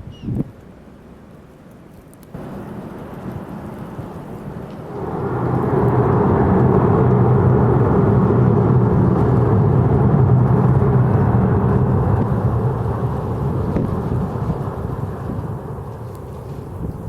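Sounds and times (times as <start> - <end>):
road noise: 2.2 - 17.0
vehicle engine hum: 2.4 - 17.0.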